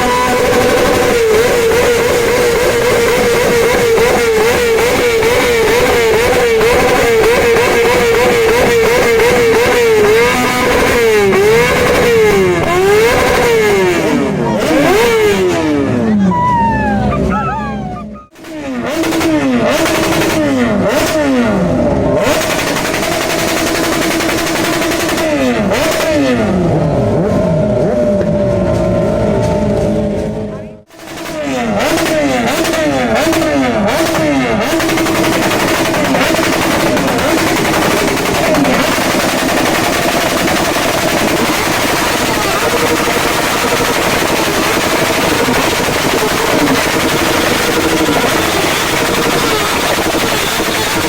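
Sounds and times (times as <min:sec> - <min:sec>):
motorcycle engine rev: 0:00.0 - 0:51.0
motorcycle engines running: 0:00.0 - 0:51.0.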